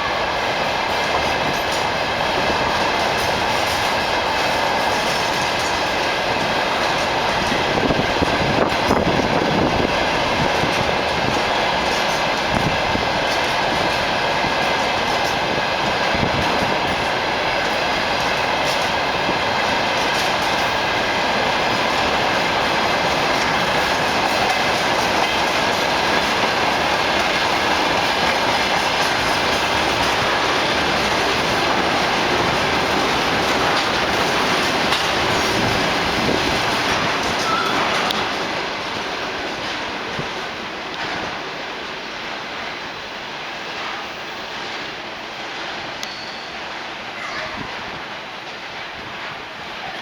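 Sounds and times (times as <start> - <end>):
clickety-clack of rail joints: 0.0 - 50.0
train wheels rumbling on rails: 0.0 - 50.0.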